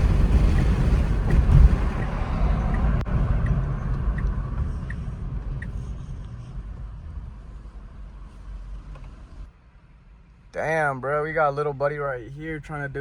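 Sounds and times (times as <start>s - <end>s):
wind and road rumble: 0.0s - 13.0s.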